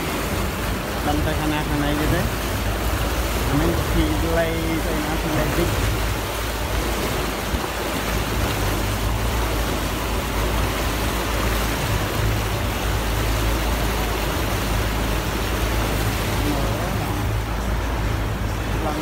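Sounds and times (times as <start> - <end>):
motorboat engine drone: 0.0 - 19.0
water rushing in wake: 0.0 - 19.0.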